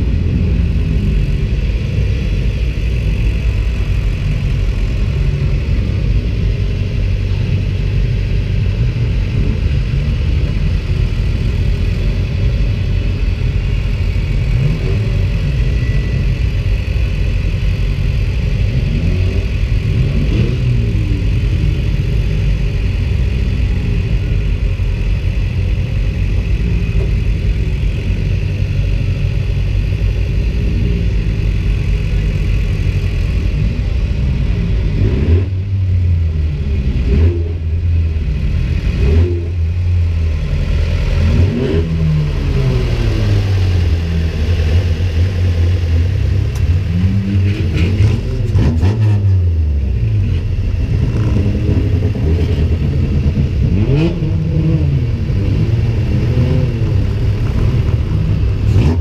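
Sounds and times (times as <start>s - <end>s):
engine revving: 0.0s - 24.8s, 30.1s - 59.0s
race car engine idling: 0.0s - 59.0s.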